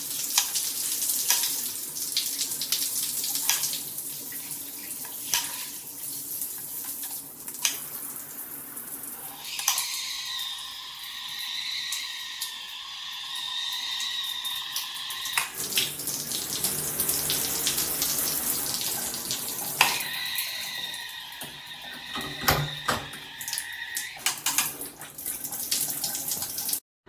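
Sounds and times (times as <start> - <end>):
shower water spraying: 0.0 - 26.8.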